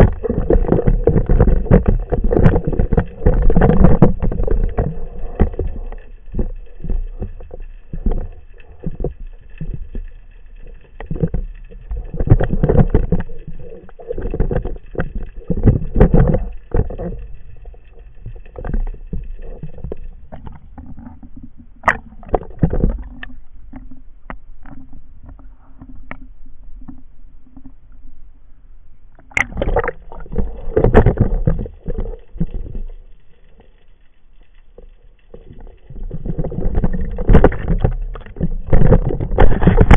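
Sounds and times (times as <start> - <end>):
underwater knocks and bumps: 0.0 - 27.8, 29.2 - 39.9
muffled water sloshing: 0.0 - 27.9, 29.1 - 39.9
faint steady hum: 0.0 - 39.9.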